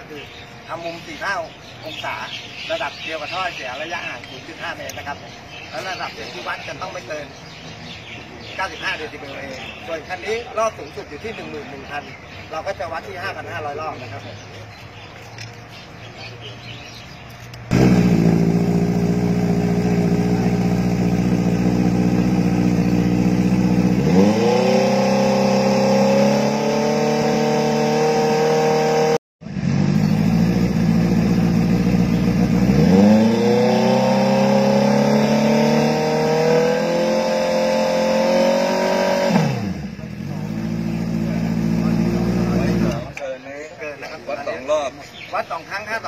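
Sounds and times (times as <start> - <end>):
motorcycle engine idling and revving: 1.5 - 43.2.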